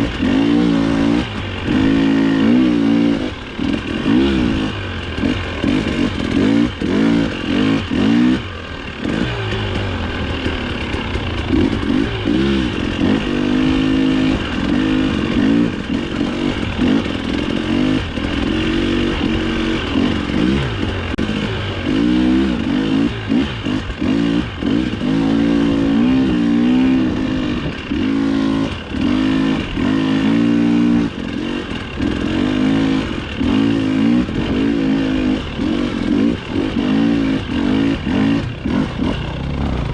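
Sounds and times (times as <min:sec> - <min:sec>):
bike rattling: 0:00.0 - 0:39.9
dirt bike engine revving: 0:00.0 - 0:39.9.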